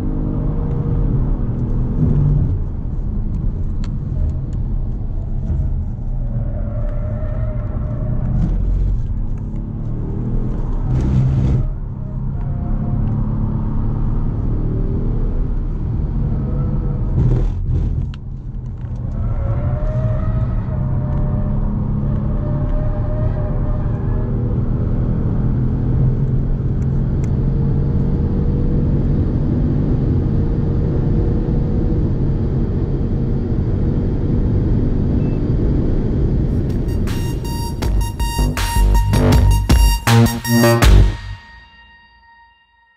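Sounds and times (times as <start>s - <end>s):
car engine accelerating hard: 0.0s - 36.8s.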